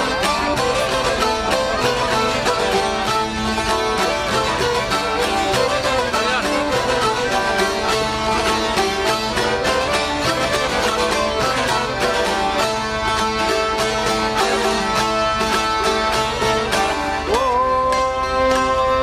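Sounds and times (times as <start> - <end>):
accordion: 0.0 - 19.0
plucked lute: 0.0 - 19.0
violin: 0.0 - 19.0.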